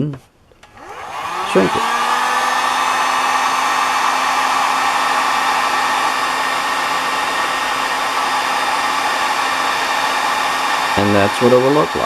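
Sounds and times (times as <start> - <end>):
hot-air blower running: 0.6 - 12.0.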